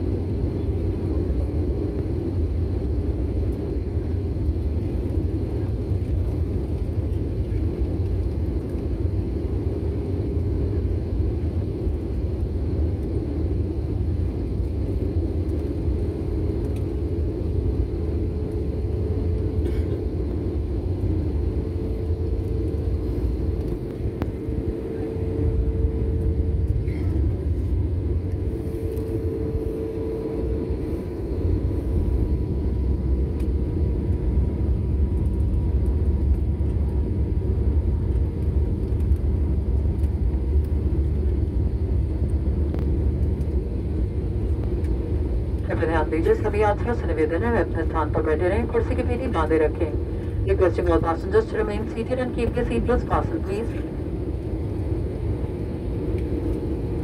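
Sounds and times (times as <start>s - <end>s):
faint steady hum: 0.0s - 57.0s
jet cabin engine rumble: 0.0s - 57.0s.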